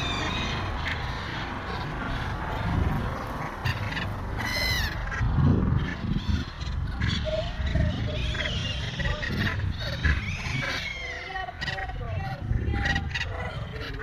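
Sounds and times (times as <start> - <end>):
gull calling: 0.0 - 14.0.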